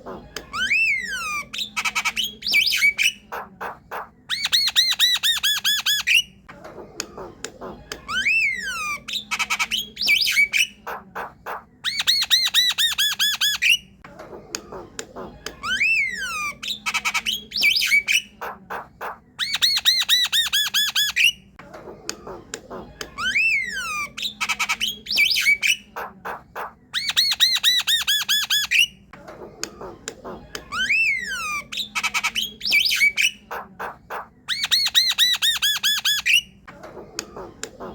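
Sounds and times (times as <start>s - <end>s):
bird chattering song: 0.1s - 37.9s.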